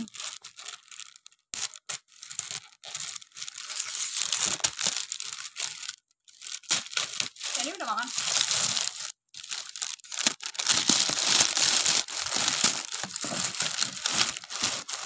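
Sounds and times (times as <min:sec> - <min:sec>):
plastic crinkling: 0:00.0 - 0:15.0
scissors cutting plastic bag: 0:00.0 - 0:15.0.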